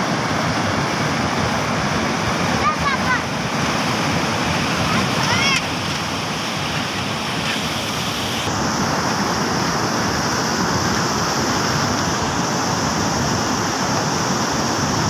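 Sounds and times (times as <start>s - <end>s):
stream rushing over boulders: 0.0s - 15.0s.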